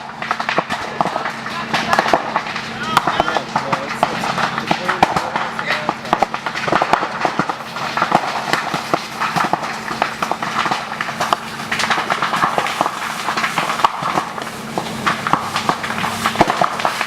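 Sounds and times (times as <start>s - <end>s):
bamboo crackling and popping in fire: 0.0s - 17.0s.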